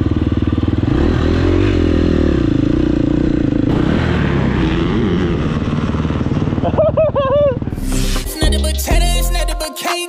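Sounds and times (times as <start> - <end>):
dirt bike engine revving: 0.0 - 8.4.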